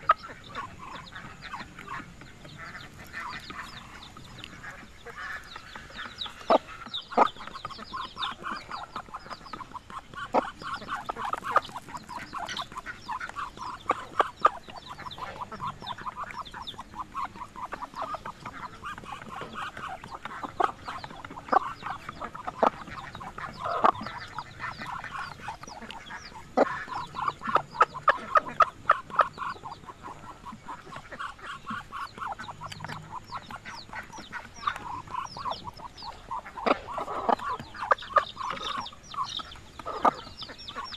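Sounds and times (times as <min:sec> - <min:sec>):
chickens and ducks clucking: 0:00.0 - 0:40.9.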